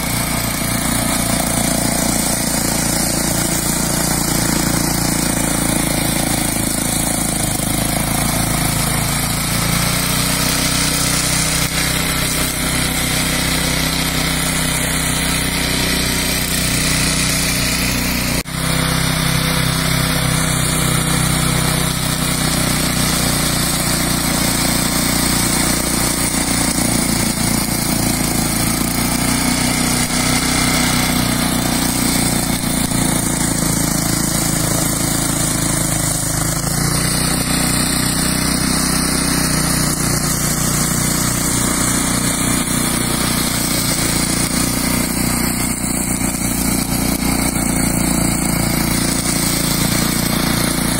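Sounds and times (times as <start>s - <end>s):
lawn mower engine cutting grass: 0.0s - 50.9s.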